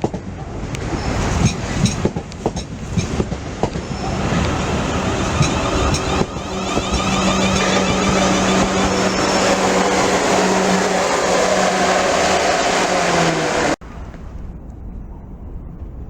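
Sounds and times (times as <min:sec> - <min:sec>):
train wheels on rail: 0:00.0 - 0:13.8.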